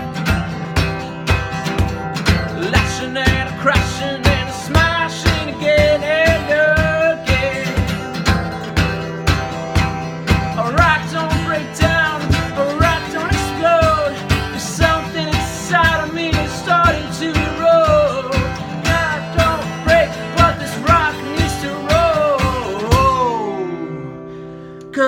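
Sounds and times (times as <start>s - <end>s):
guitar strumming: 0.0s - 25.0s.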